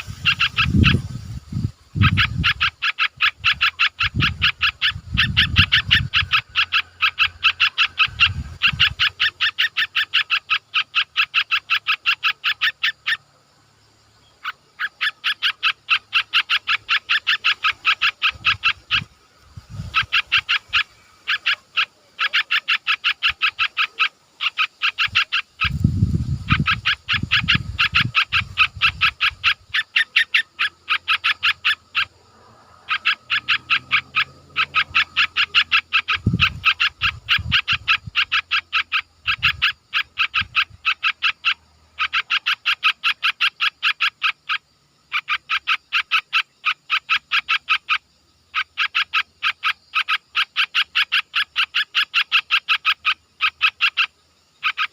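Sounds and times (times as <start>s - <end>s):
animal rapid high chirps: 2.0s - 13.2s, 19.8s - 25.8s, 26.4s - 54.9s.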